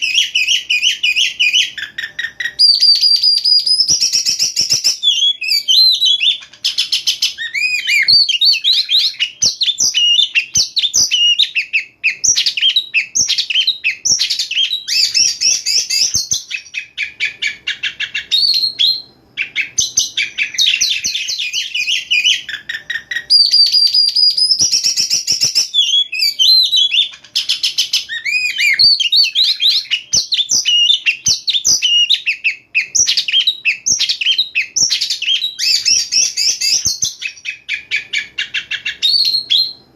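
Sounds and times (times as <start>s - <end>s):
magpie-robin singing: 0.0s - 39.8s.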